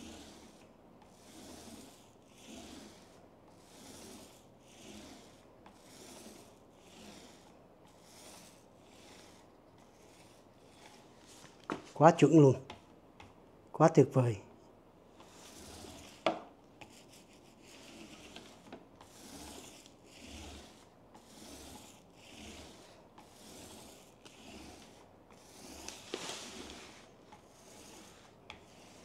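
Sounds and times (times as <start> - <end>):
paint roller swishing on tabletop: 0.0 - 13.4, 14.1 - 29.0.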